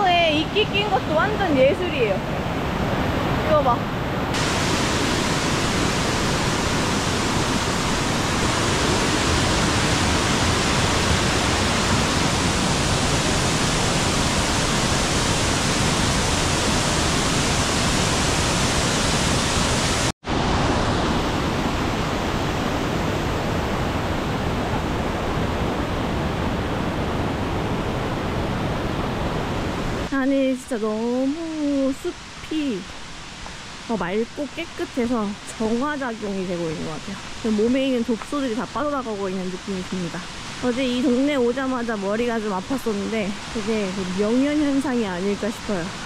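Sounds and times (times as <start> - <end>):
waterfall rushing: 0.0 - 30.2, 31.0 - 46.0.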